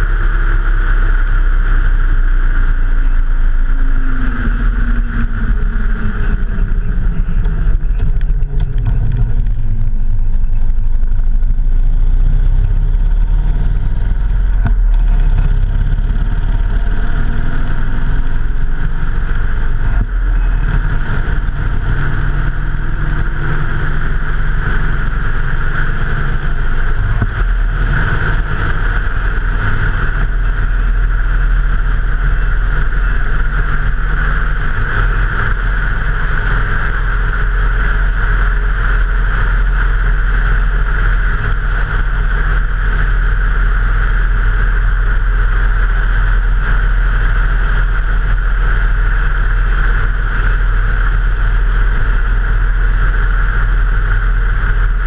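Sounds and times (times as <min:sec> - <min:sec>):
motorcycle engine and road noise: 0:00.0 - 0:55.0.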